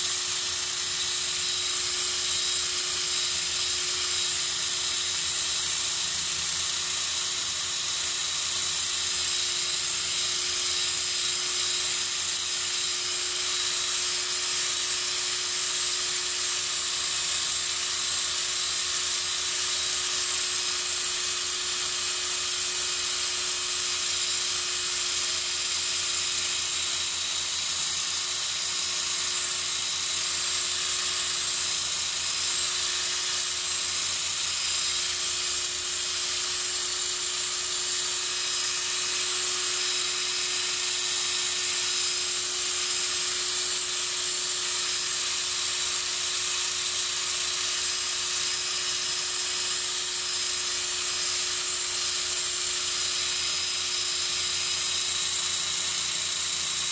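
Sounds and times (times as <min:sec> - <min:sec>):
cordless drill motor whine: 0:00.0 - 0:56.9.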